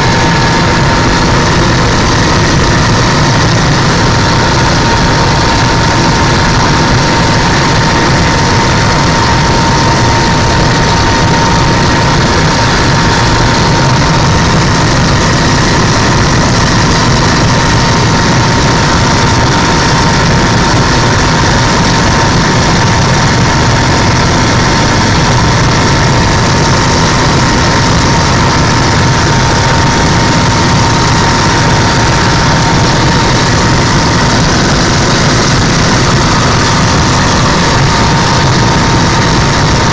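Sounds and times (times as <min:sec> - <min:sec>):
helicopter engine and rotor noise: 0:00.0 - 0:39.9
high whine: 0:00.0 - 0:39.9.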